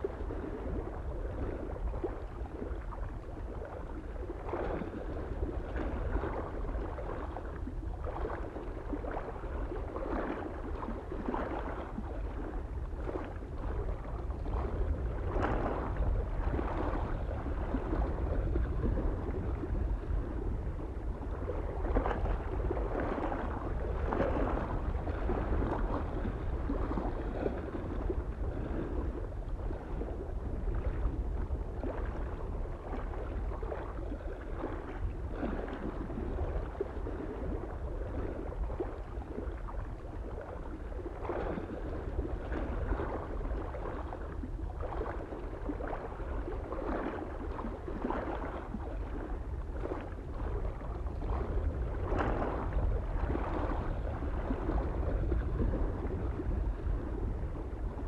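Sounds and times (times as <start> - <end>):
low wind rumble: 0.0 - 58.0
small waves lapping on shore: 0.0 - 58.0.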